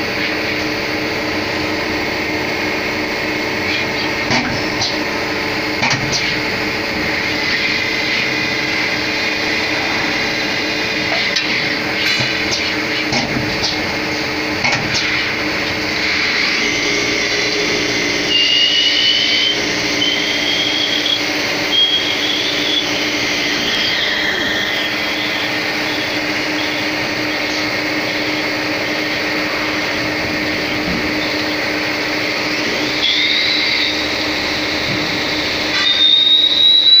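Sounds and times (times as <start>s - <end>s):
lathe motor whining: 0.0s - 37.0s
machine steady hum: 0.0s - 37.0s.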